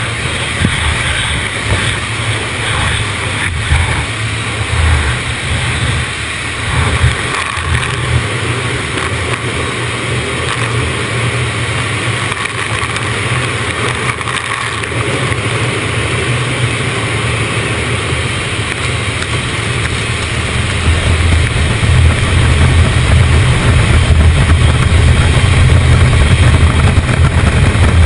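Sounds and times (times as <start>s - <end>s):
car wash machinery running: 0.0s - 28.0s.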